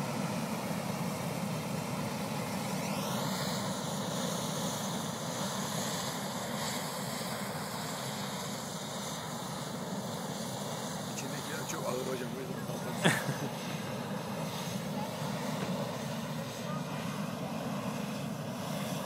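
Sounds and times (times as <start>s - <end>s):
propane burner rushing: 0.0s - 19.0s.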